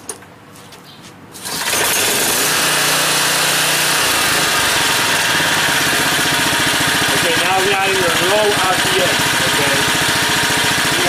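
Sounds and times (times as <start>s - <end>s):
generator engine running: 1.4s - 11.0s.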